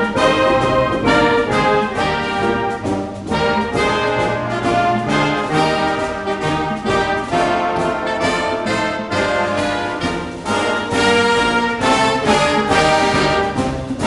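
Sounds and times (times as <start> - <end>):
brass background music: 0.0 - 14.0.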